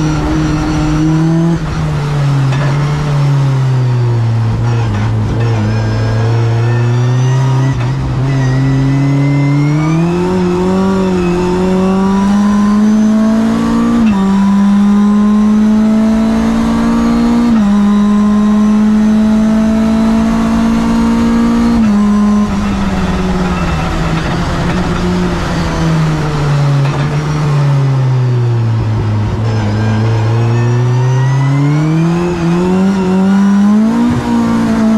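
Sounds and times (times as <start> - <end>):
race car engine accelerating: 0.0 - 34.9.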